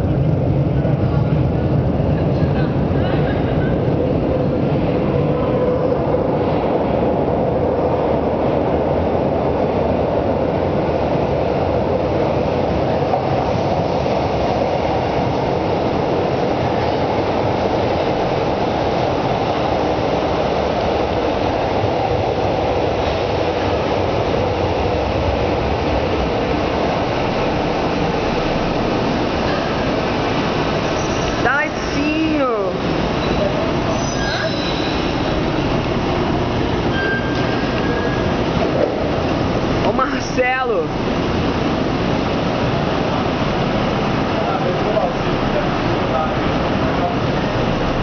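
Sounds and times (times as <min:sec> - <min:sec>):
train rumbling through station: 0:00.0 - 0:48.0.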